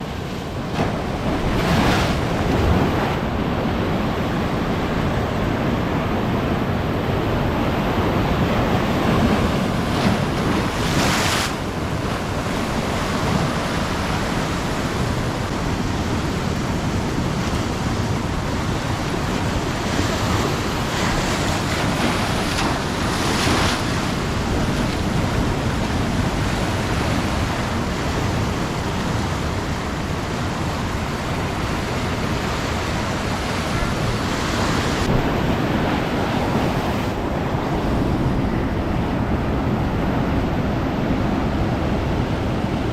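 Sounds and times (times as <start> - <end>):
waves breaking on beach: 0.0 - 42.9.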